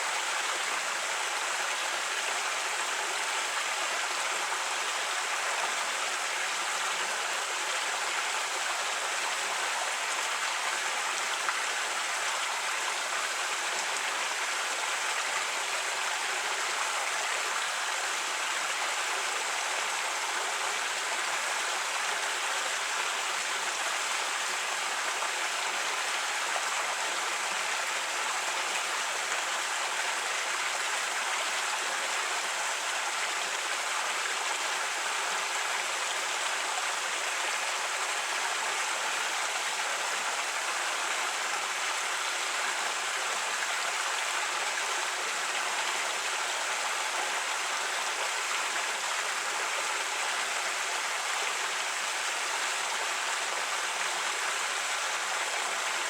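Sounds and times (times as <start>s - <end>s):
creek water over rocks: 0.0s - 56.0s.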